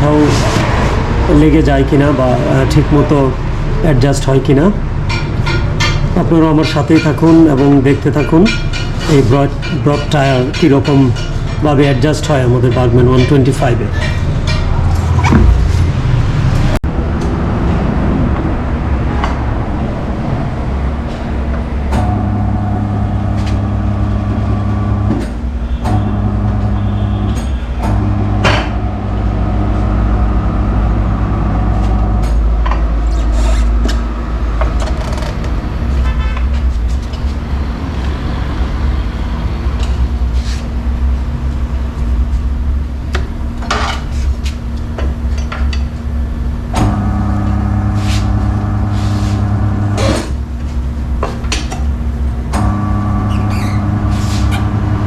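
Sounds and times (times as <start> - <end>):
steady machine hum: 0.0 - 33.0, 37.0 - 55.0.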